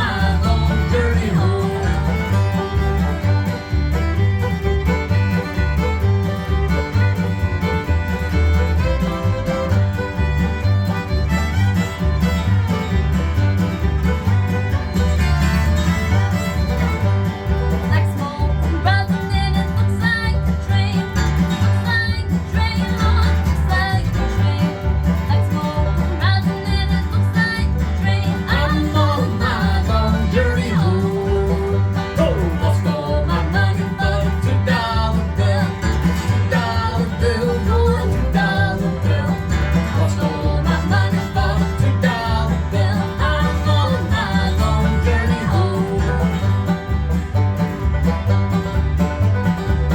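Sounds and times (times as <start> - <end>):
acoustic guitar: 0.0 - 49.9
banjo: 0.0 - 49.9
fiddle: 0.0 - 49.9
upright bass: 0.0 - 49.9.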